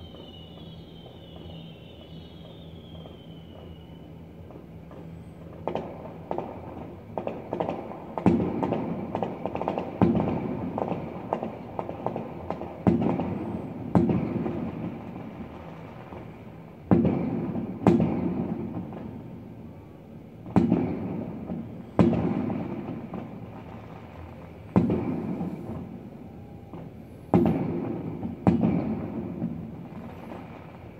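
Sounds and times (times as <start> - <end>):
distant fireworks booming: 0.0 - 30.9
fireworks crackling: 0.0 - 30.9.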